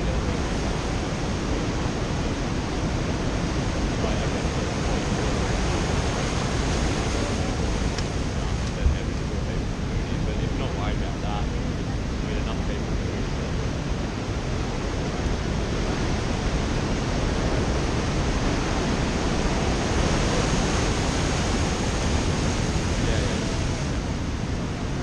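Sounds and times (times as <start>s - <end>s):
surf breaking on beach: 0.0s - 25.0s.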